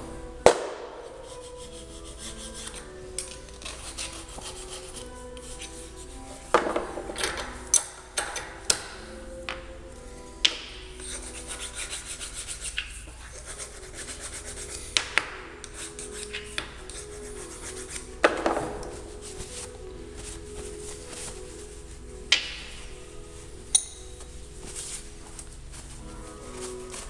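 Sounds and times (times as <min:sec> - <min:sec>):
metal scraping and rubbing: 0:00.0 - 0:27.0.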